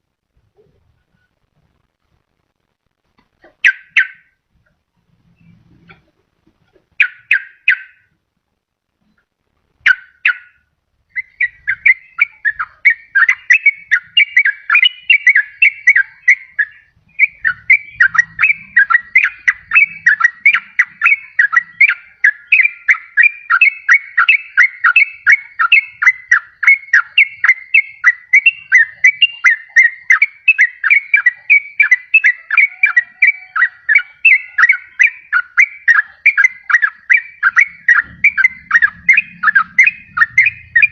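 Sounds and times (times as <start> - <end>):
bulbul singing whistled notes: 3.6 - 4.4, 7.0 - 8.1, 9.8 - 40.9.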